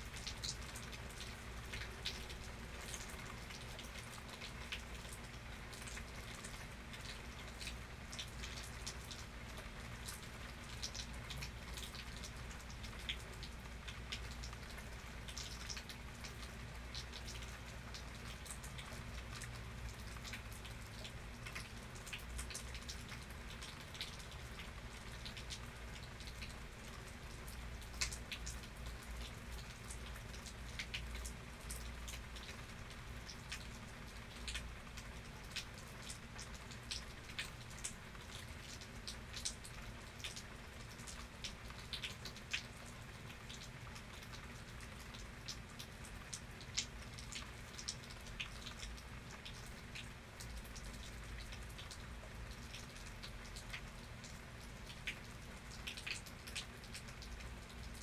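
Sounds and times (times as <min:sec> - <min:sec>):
rain falling: 0:00.0 - 0:58.0
raindrops ticking on a surface: 0:00.0 - 0:58.0.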